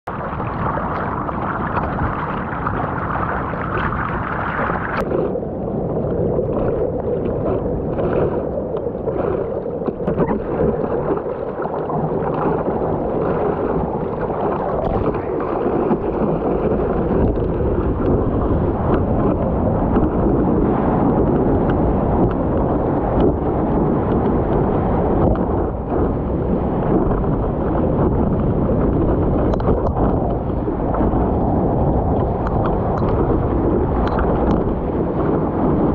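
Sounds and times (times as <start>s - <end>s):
water splashing against surfboard: 0.1s - 35.9s.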